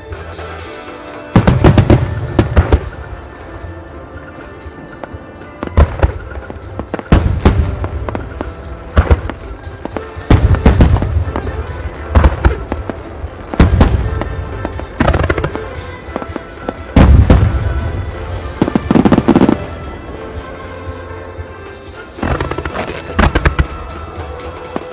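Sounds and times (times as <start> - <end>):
music: 0.0 - 24.9
fireworks crackling: 0.3 - 24.9
fireworks bursting with loud bangs: 1.2 - 3.6, 4.8 - 20.4, 22.1 - 24.9.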